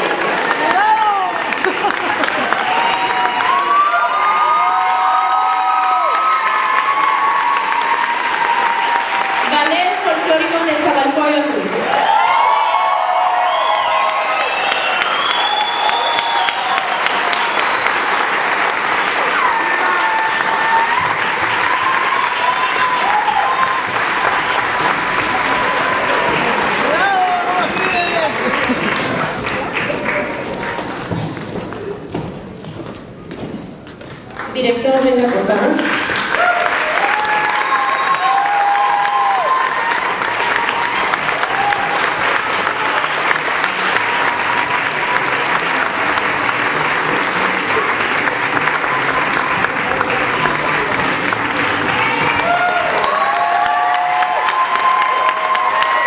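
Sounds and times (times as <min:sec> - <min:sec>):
audience applauding: 0:00.0 - 0:32.2, 0:33.9 - 0:56.0.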